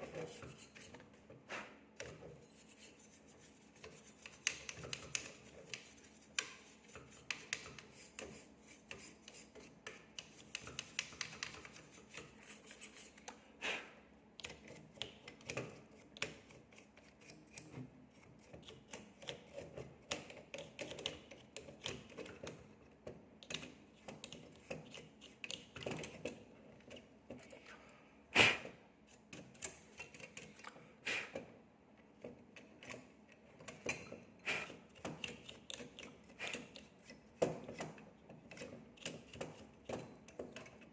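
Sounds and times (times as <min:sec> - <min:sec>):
small clicks and taps of parts: 0:03.8 - 0:12.5, 0:14.4 - 0:27.8, 0:29.1 - 0:30.8, 0:31.4 - 0:40.9.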